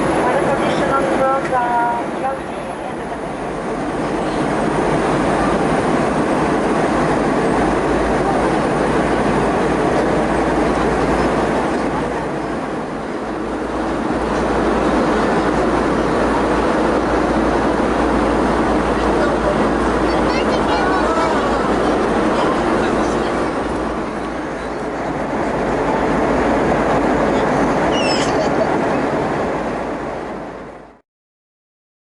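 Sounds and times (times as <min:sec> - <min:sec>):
airliner cabin and engine rumble: 0:00.0 - 0:31.0.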